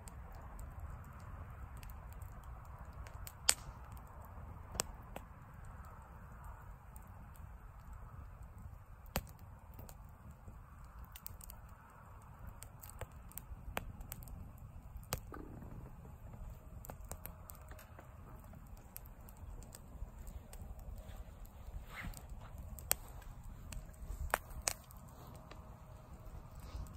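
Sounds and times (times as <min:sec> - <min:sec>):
campfire crackling and popping: 0:00.0 - 0:26.9
low steady rumble: 0:00.0 - 0:26.9.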